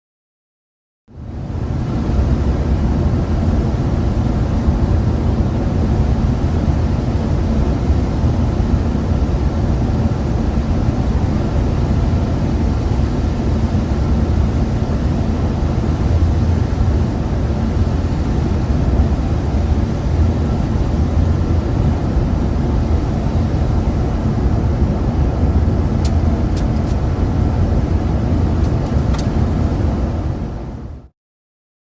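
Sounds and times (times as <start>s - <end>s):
bus engine hum: 1.2s - 31.1s
road rumble: 1.2s - 31.1s.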